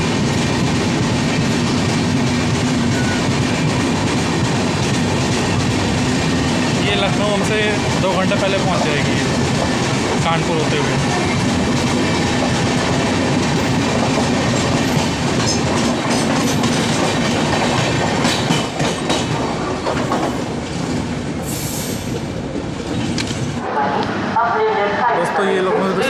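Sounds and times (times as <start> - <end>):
train wheels rumbling on rails: 0.0 - 24.3.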